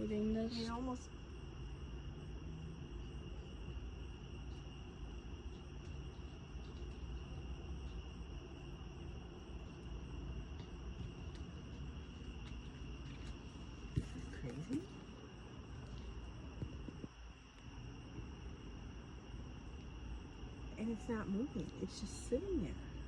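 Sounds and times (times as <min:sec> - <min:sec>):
crickets trilling: 0:00.0 - 0:23.0
low background rumble: 0:00.0 - 0:23.0.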